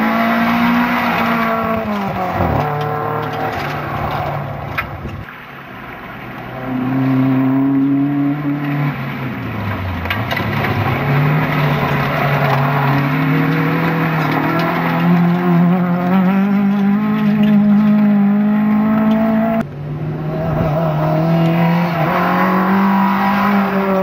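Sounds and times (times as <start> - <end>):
rally car engine revving: 0.0 - 4.6, 6.5 - 24.0.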